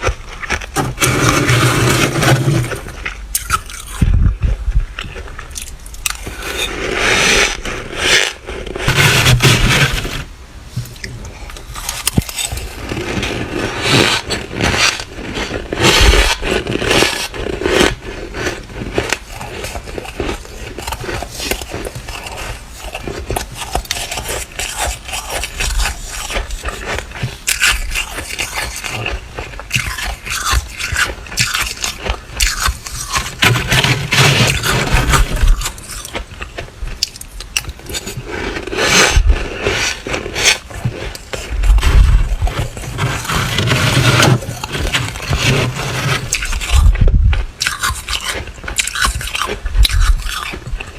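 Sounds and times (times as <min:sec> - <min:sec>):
chewing crunchy frost: 0:00.0 - 0:50.9.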